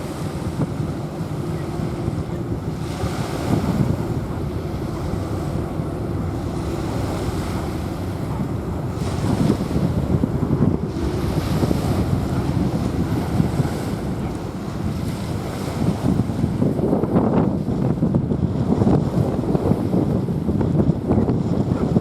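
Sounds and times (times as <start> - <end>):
small waves washing on sand: 0.0 - 20.6
wind rumbling on microphone: 0.0 - 22.0.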